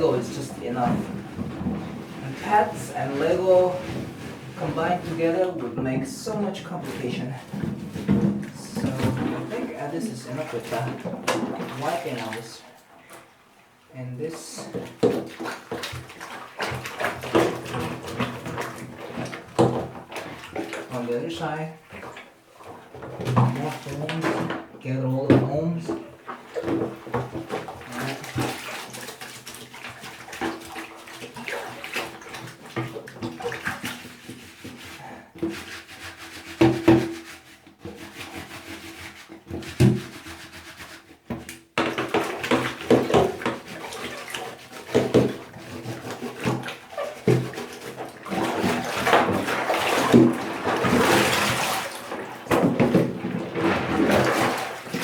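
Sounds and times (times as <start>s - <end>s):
water sloshing and splashing: 0.0s - 55.0s.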